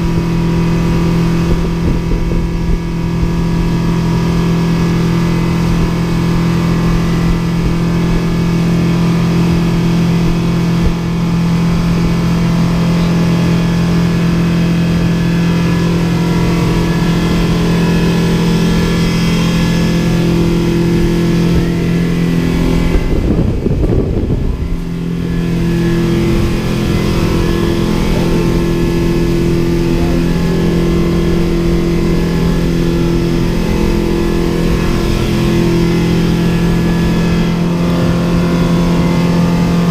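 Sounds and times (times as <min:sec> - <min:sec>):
rushing wind and water: 0:00.0 - 0:39.9
speedboat engines droning: 0:00.0 - 0:39.9.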